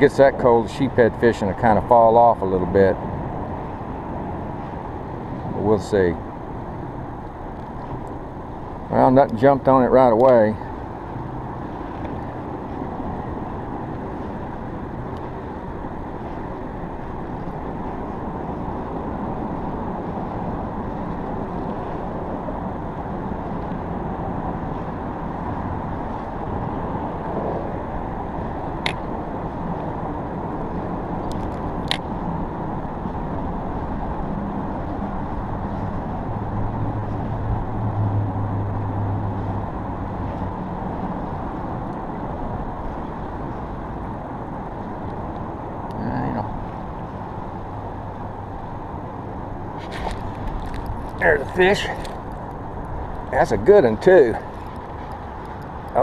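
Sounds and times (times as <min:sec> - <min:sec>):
road traffic rumbling: 0:00.0 - 0:56.0.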